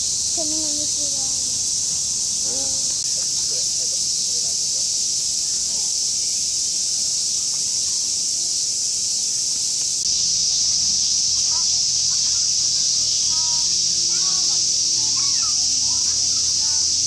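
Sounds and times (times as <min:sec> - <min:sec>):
cicadas shrilling: 0:00.0 - 0:17.0.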